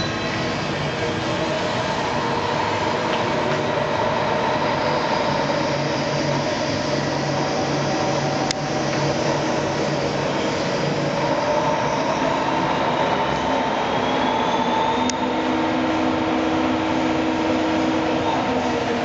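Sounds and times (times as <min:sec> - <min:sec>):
lathe droning and whining: 0:00.0 - 0:19.0.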